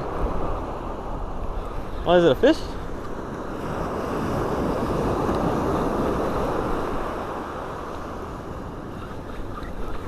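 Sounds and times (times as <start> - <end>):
ocean surf washing up beach: 0.0 - 10.0
wind rumbling on microphone: 0.0 - 10.0.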